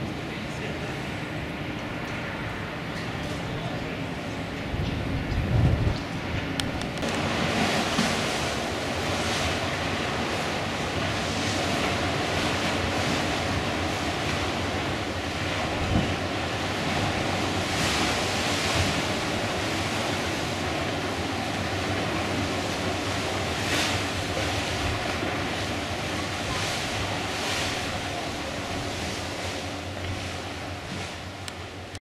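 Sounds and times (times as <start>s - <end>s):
water rushing along hull: 0.0s - 32.0s
wind buffeting microphone: 1.5s - 31.0s.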